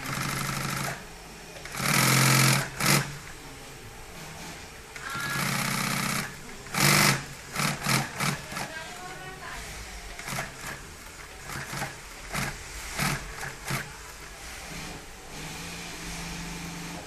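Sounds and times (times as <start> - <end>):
sewing machine stitching: 0.0 - 1.0, 1.6 - 3.2, 4.3 - 9.1, 10.1 - 17.0.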